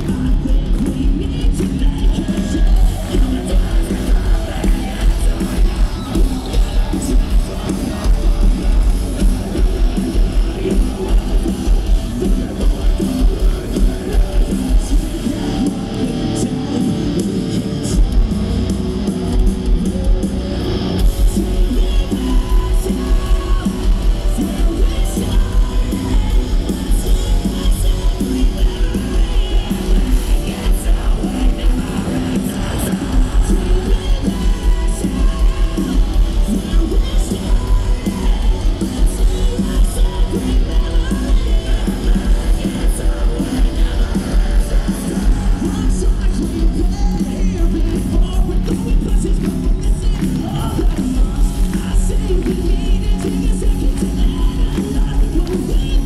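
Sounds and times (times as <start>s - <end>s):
heavy kick drum beat: 0.0s - 15.7s, 21.0s - 56.0s
distorted electric guitars: 0.0s - 56.0s
heavy bass: 0.0s - 56.0s
live rock band playing: 0.0s - 56.0s
person singing: 0.0s - 56.0s.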